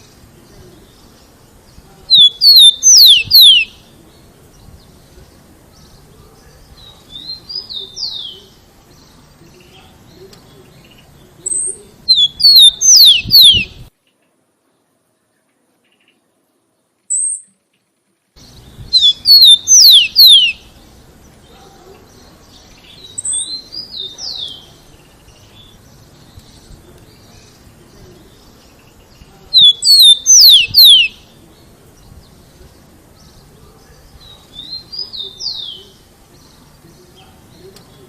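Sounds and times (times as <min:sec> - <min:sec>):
sparrow singing whistled notes: 0:00.0 - 0:13.9, 0:18.4 - 0:21.5, 0:22.1 - 0:38.0.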